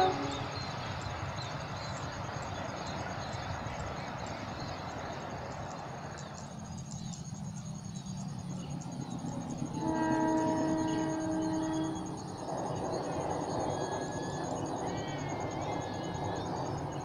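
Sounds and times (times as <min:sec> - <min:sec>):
insect trill: 0:00.0 - 0:17.0
train rumbling past: 0:00.0 - 0:17.0.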